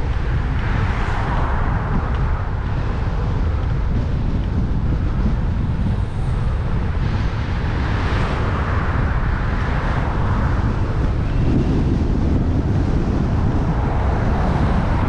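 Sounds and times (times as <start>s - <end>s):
car passing with tyre noise: 0.0s - 15.0s
strong wind buffeting microphone: 0.0s - 15.0s.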